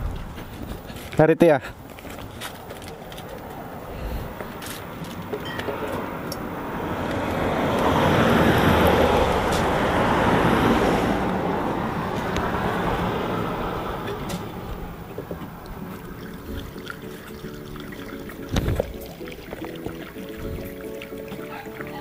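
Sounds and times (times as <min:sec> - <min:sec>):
road vehicle passing: 0:00.0 - 0:22.0.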